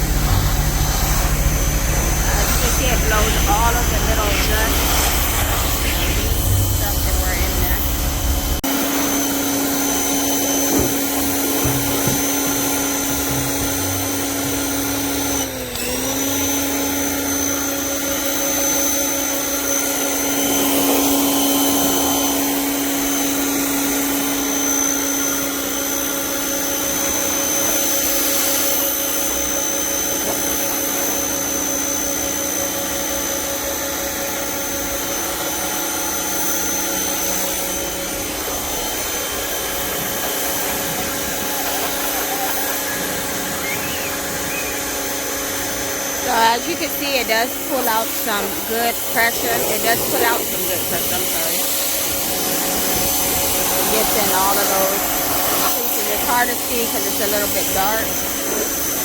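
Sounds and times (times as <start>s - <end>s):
portable generator running: 0.0s - 59.0s
pressure washer spraying: 0.0s - 59.0s.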